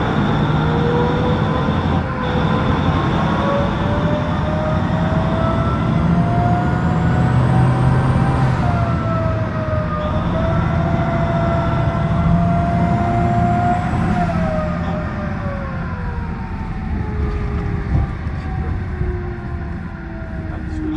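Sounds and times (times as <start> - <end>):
diesel truck engine with whine: 0.0 - 20.9.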